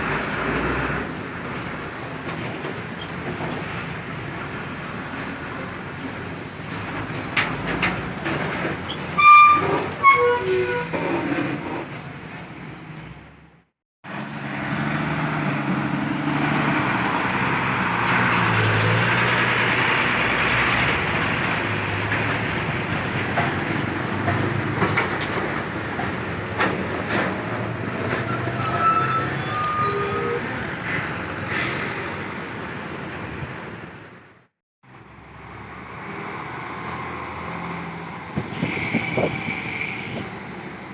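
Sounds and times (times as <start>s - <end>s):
truck engine and tyre noise: 0.0s - 40.9s.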